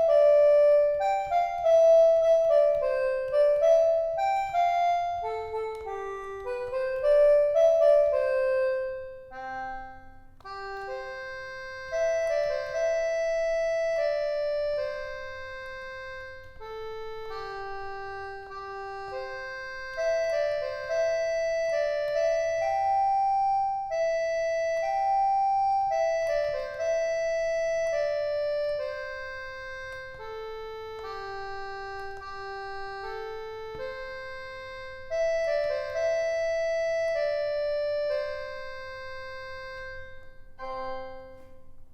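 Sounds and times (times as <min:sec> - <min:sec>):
organ-like keyboard melody: 0:00.0 - 0:41.9.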